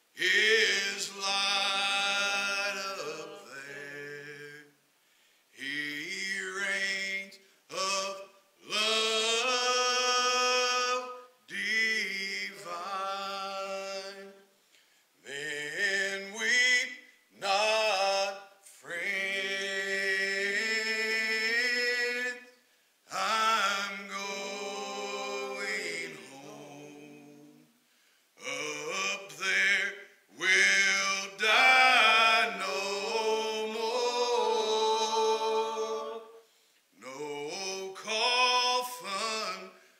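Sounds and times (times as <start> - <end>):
person singing a hymn: 0.0 - 4.8, 5.6 - 14.5, 15.2 - 27.7, 28.4 - 39.9.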